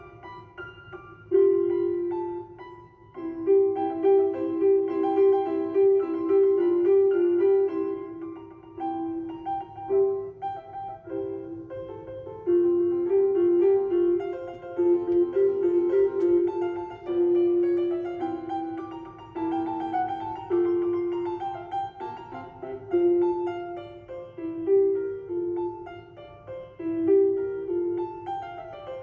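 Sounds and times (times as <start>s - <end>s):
keyboard melody: 0.0s - 29.0s.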